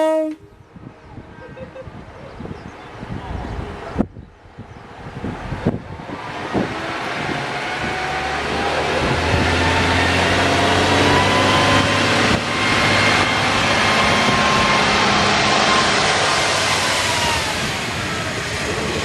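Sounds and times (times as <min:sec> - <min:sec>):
diesel railcar engine drone: 0:00.3 - 0:19.0.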